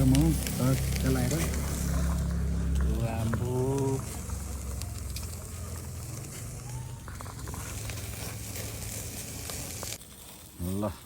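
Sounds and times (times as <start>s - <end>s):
fire crackling and popping: 0.0s - 11.0s
meat sizzling over fire: 0.0s - 11.0s.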